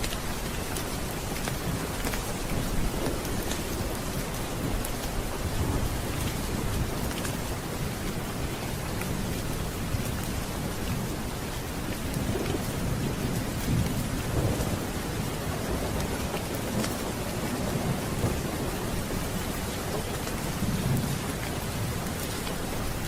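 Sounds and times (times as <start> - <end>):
steady rain: 0.0 - 23.0
low rolling thunder: 0.7 - 23.0.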